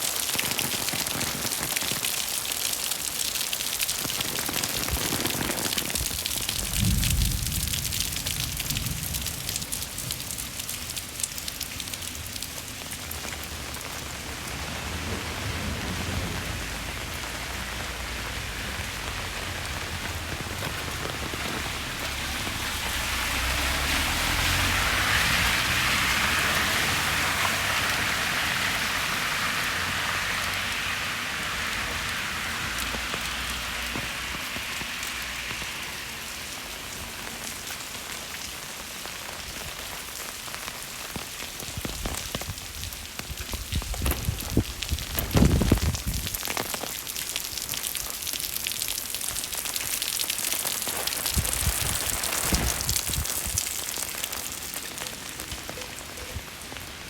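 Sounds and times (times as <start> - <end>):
rain hissing on wet street: 0.0 - 57.0.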